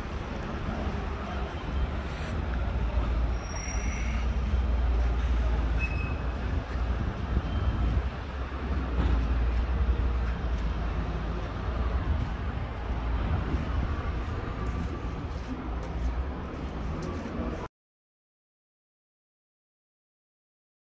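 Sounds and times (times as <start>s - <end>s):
low outdoor rumble: 0.0s - 17.7s.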